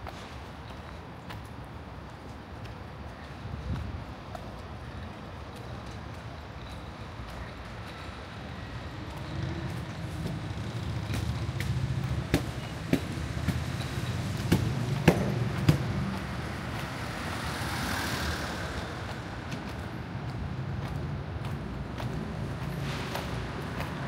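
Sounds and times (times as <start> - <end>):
traffic engine hum: 3.8 - 24.0.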